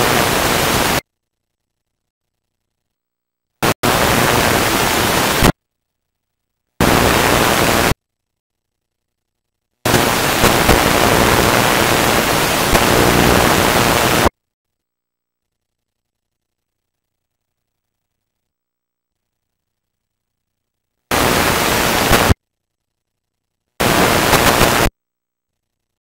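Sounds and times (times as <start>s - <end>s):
videotape static hiss: 0.0s - 26.0s.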